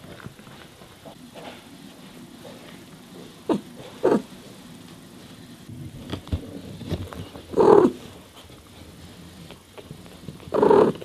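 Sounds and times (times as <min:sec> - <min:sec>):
kittens shuffling softly: 0:00.0 - 0:11.0.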